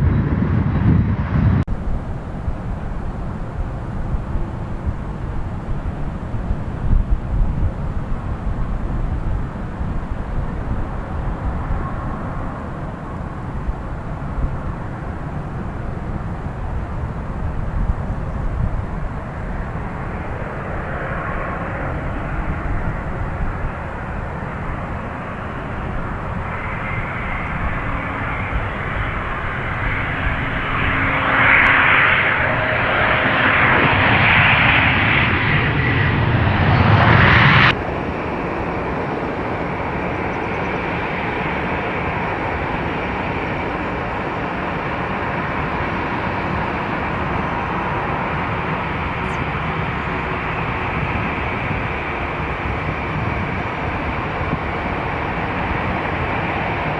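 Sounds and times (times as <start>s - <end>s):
jet engines running: 0.0s - 56.9s.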